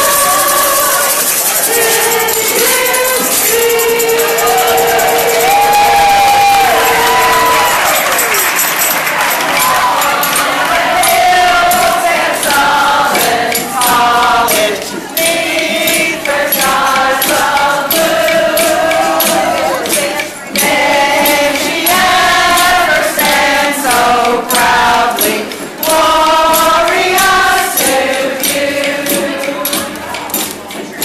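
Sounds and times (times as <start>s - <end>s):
women singing in chorus: 0.0s - 8.1s, 9.6s - 30.9s
maracas shaking: 0.0s - 31.0s.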